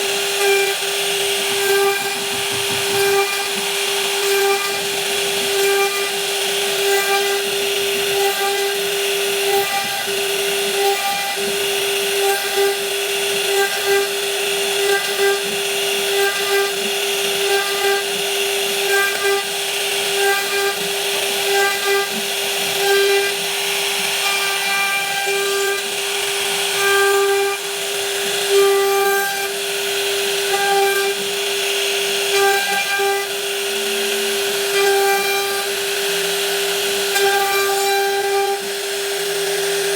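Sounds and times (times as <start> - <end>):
router cutting wood: 0.0 - 39.9.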